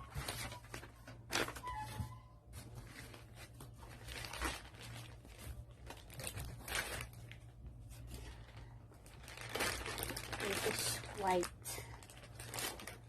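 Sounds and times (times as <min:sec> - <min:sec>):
plastic and paper wrapping rustling: 0:00.0 - 0:13.0.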